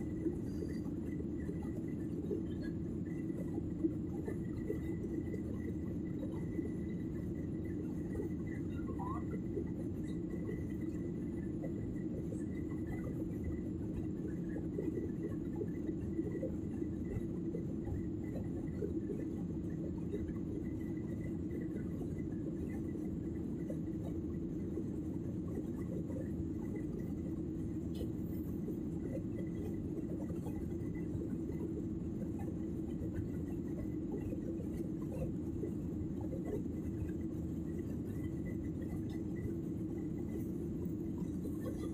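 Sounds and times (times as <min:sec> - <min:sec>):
jet airliner cabin drone: 0:00.0 - 0:41.9.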